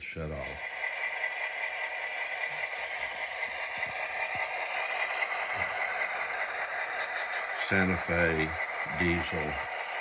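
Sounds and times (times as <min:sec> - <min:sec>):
model locomotive whirring: 0:00.0 - 0:10.0.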